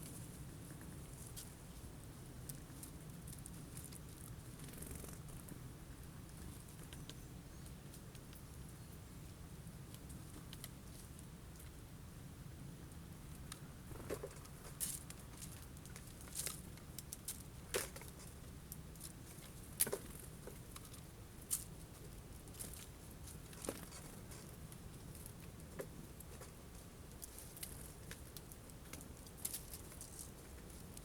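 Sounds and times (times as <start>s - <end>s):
birds pecking at seeds: 0.0s - 11.8s, 12.9s - 31.0s
faint low hum: 0.0s - 31.0s.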